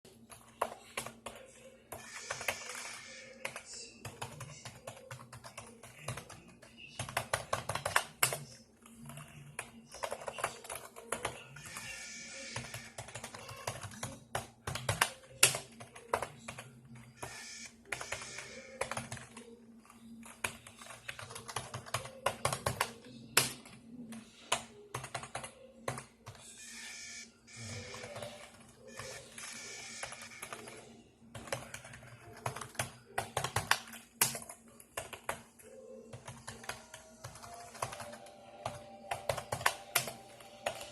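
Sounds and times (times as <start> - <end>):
computer clicking and chattering: 0.0 - 40.9.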